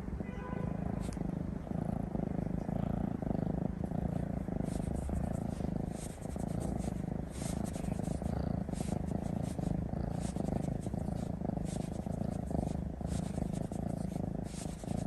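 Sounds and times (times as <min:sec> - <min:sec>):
cat purring: 0:00.0 - 0:15.0
scratchy rustles: 0:02.8 - 0:15.0.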